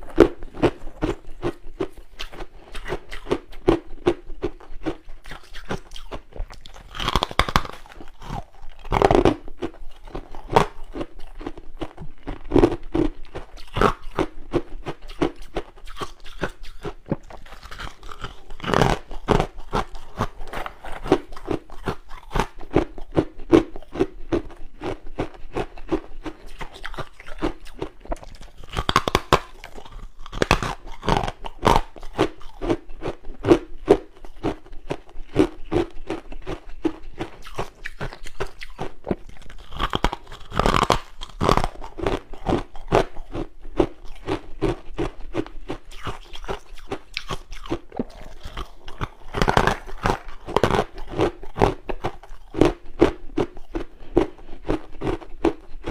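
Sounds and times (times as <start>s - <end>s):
frost being chewed: 0.0s - 55.9s.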